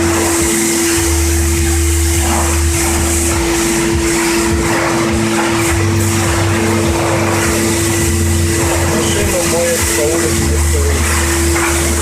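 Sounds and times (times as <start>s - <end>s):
pressure washer pump and motor: 0.0s - 12.0s
water jet hissing: 0.0s - 12.0s.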